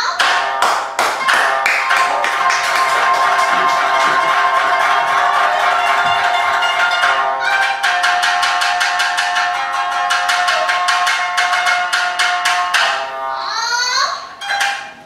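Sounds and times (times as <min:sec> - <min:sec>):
plucked shamisen notes: 0:00.0 - 0:15.0.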